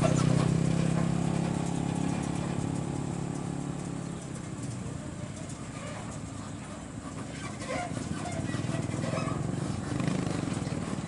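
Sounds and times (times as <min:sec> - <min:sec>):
truck diesel engine: 0:00.0 - 0:11.0.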